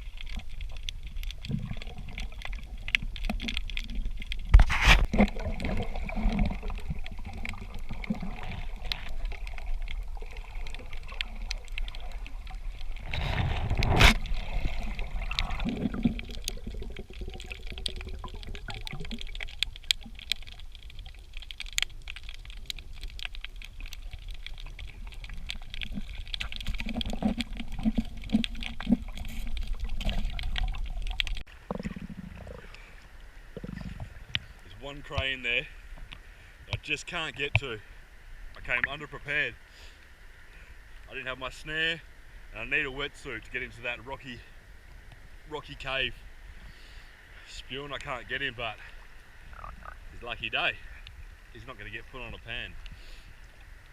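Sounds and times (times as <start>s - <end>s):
water sloshing and bubbling: 0.0s - 53.9s.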